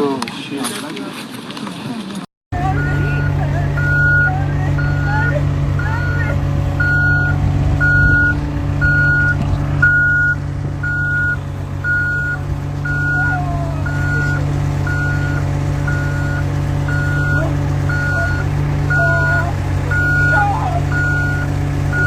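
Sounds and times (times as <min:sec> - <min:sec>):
low engine hum: 0:02.5 - 0:22.0
reversing alarm beeping: 0:02.6 - 0:22.0.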